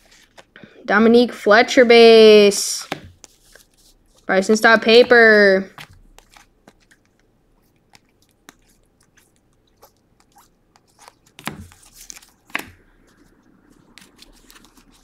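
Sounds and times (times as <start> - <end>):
cards clicking and rustling: 0.0 - 0.6, 2.8 - 4.3, 4.9 - 15.0.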